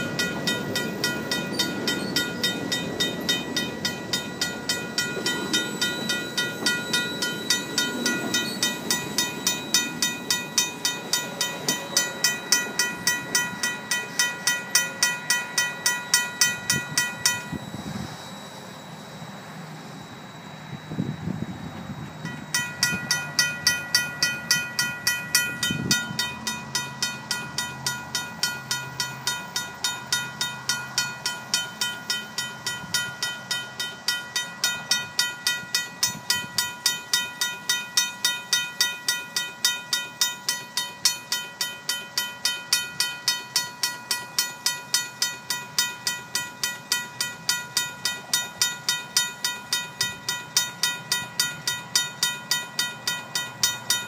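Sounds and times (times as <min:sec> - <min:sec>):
freight train rumble: 0:00.0 - 0:54.0
railroad crossing bell ringing: 0:00.0 - 0:54.0.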